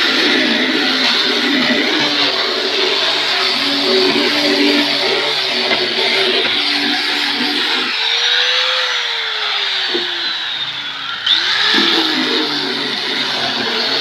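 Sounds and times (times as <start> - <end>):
electric sander on wood: 0.0 - 14.0.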